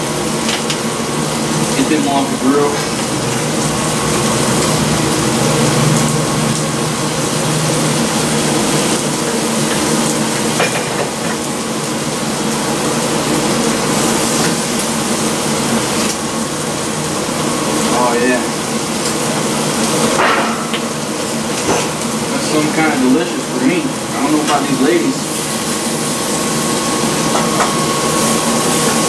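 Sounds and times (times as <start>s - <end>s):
fan rushing and humming: 0.0s - 29.0s
food sizzling on electric grill: 0.0s - 29.0s.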